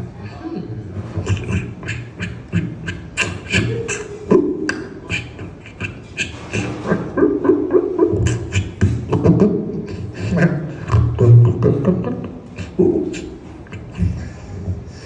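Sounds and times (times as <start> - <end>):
hummed vocal tones: 0.0 - 15.0
beatboxing clicks and pops: 1.0 - 12.0, 12.6 - 14.9.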